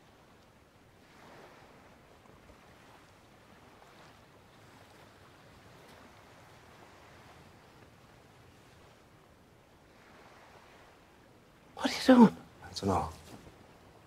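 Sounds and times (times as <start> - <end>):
distant surf and wind hiss: 0.0 - 14.0.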